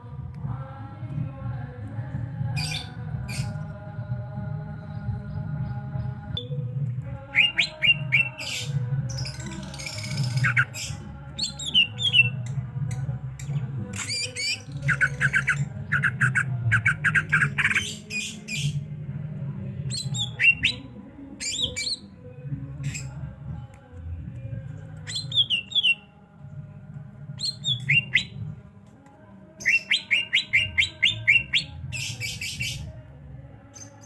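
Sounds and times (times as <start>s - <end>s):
songbird singing: 2.5s - 19.0s, 19.9s - 26.3s, 27.3s - 28.6s, 29.5s - 33.0s.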